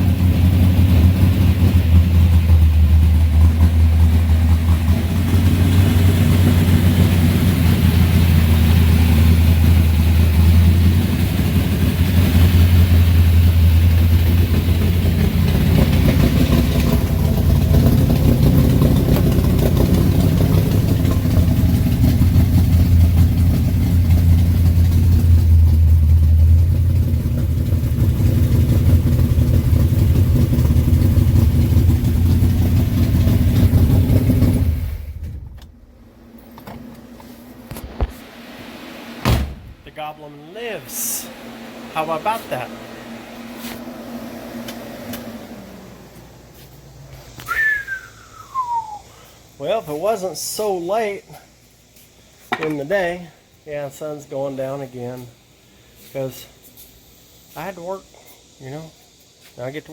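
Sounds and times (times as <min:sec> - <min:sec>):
car engine idling: 0:00.0 - 0:50.4.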